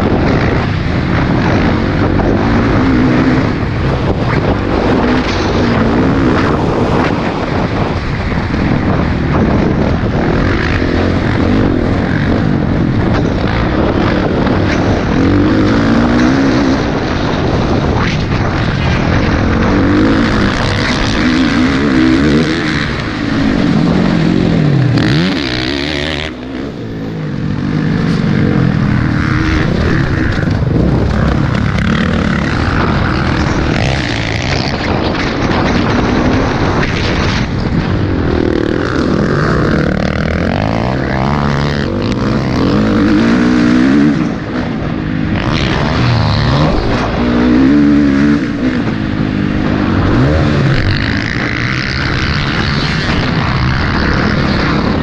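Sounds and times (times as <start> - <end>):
dirt bike engine revving: 0.0 - 55.0
wind noise on microphone: 0.0 - 55.0.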